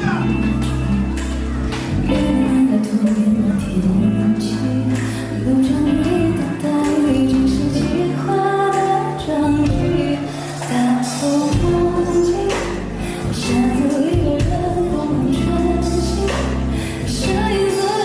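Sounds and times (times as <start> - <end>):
live band playing pop song: 0.0 - 18.0.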